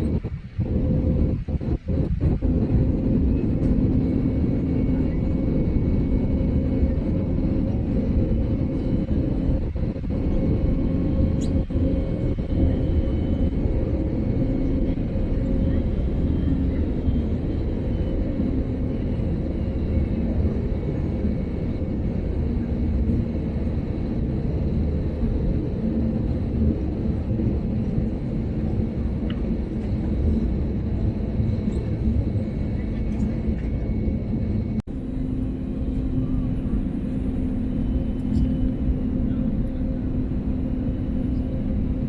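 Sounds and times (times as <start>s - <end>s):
airplane cabin engine drone: 0.0s - 42.0s.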